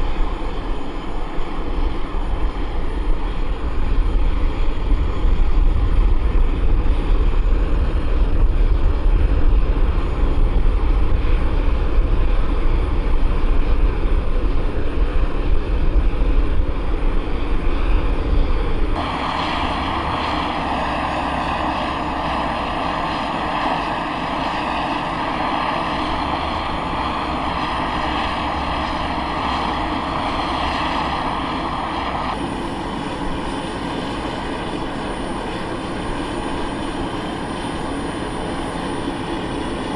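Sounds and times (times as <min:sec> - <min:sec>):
aircraft engines running: 0:00.0 - 0:39.9.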